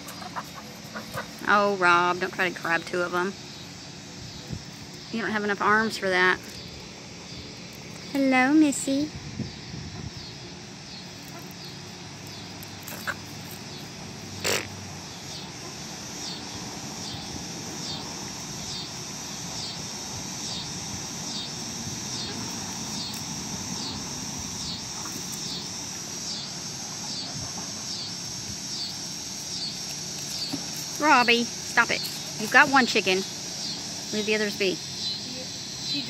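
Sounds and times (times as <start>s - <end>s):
insect chirping: 0.0s - 36.0s.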